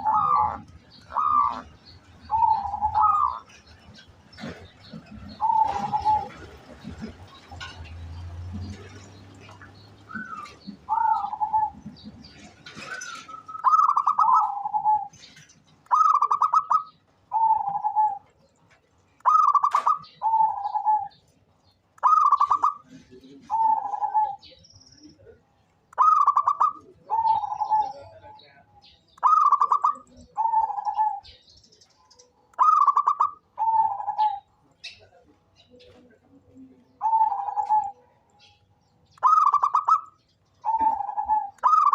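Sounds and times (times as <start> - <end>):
dove cooing: 0.0 - 18.5, 19.2 - 21.3, 22.0 - 24.6, 26.0 - 28.5, 29.2 - 31.4, 32.6 - 35.0, 35.8 - 38.2, 39.2 - 41.9.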